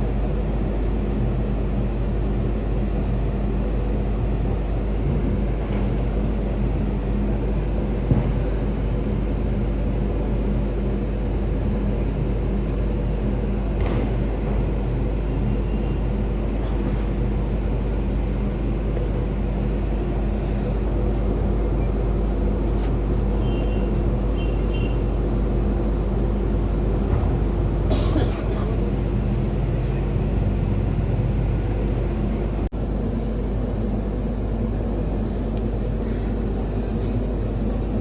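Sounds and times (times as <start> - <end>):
large engine rumbling: 0.0 - 38.0.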